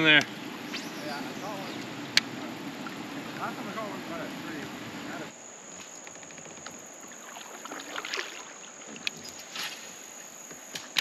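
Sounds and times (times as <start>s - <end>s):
water sloshing around kayak: 0.0s - 11.0s.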